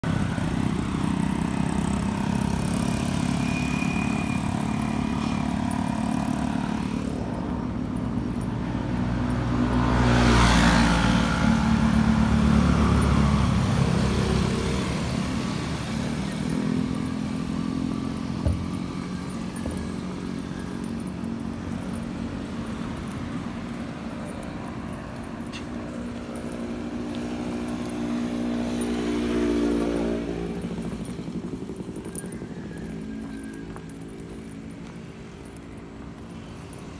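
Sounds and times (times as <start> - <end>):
motorcycle engines running: 0.0 - 36.9
motorcycle passing close: 0.1 - 36.9.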